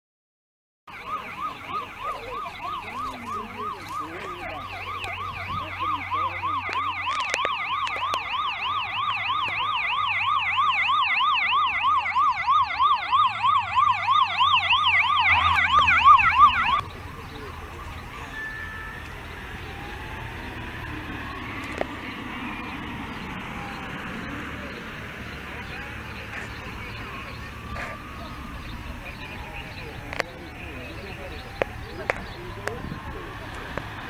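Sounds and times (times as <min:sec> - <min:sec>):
vehicle sirens yelping: 0:00.9 - 0:34.0.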